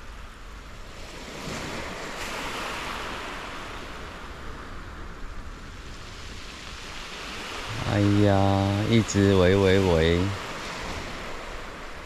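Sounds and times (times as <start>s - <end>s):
sea surf washing onto beach: 1.0s - 12.0s.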